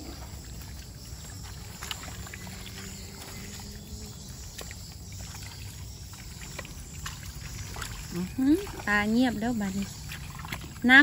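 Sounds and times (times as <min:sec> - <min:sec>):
hands sloshing through mud: 0:00.0 - 0:11.0
small splashes: 0:00.0 - 0:11.0
wet squelches: 0:00.0 - 0:11.0.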